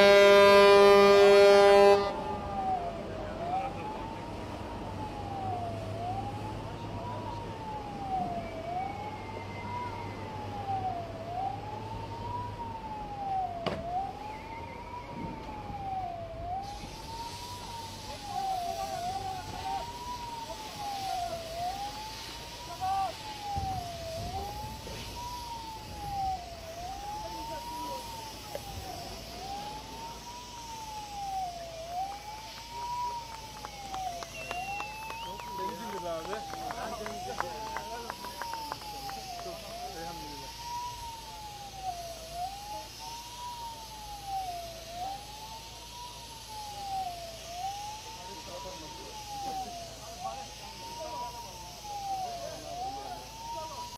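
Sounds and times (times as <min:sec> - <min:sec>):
wailing siren: 0:00.0 - 0:53.9
rushing hiss: 0:07.2 - 0:53.9.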